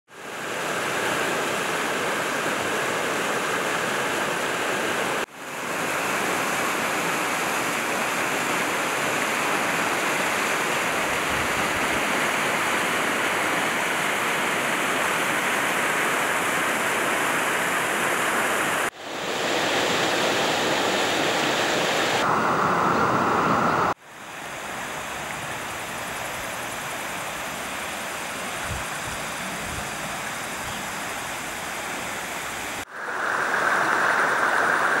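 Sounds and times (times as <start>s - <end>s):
river rushing over rapids: 0.1s - 35.0s.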